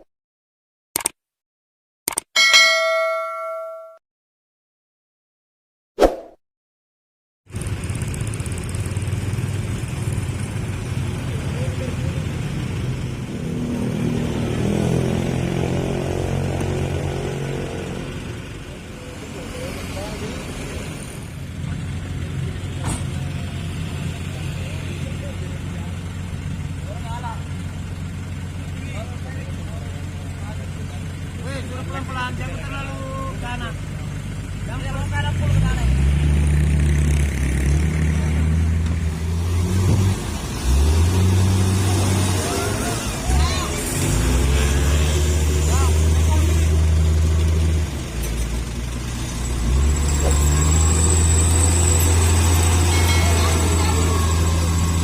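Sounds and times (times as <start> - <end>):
diesel truck engine revving: 7.5 - 55.0.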